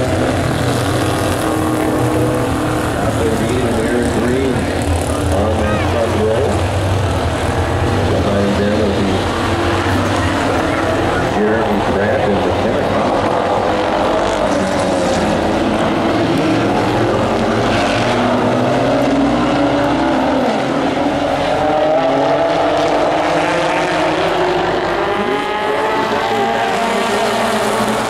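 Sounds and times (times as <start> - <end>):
race truck engines passing: 0.0 - 28.0.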